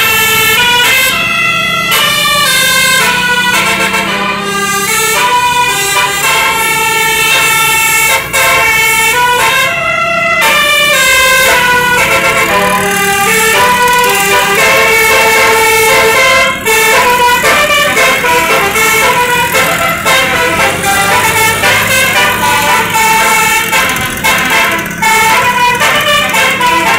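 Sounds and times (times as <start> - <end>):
musical air horn melody: 1.9 - 26.9.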